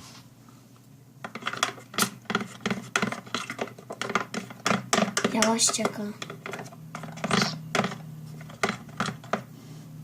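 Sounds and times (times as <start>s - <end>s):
hard objects clicking on tabletop: 1.3s - 9.5s.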